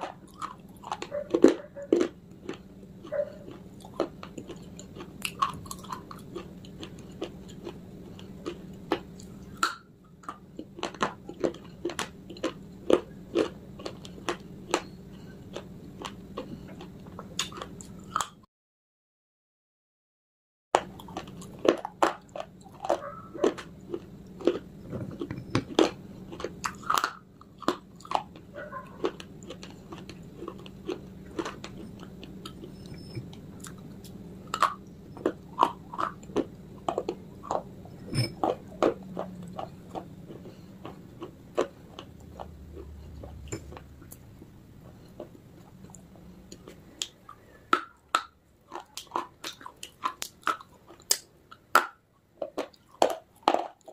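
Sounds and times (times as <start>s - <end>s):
crunchy chewing of clay pieces: 0.0s - 18.4s, 20.8s - 53.9s.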